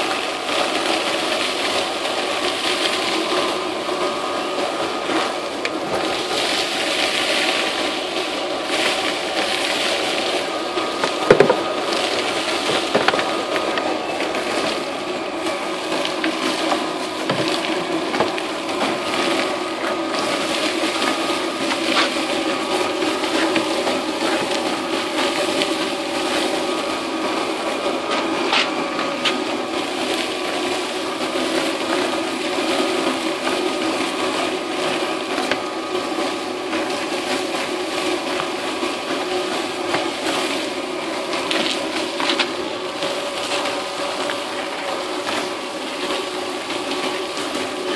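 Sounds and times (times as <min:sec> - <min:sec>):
blower motor whining: 0:00.0 - 0:47.9
debris rattling up a hose: 0:00.1 - 0:47.9.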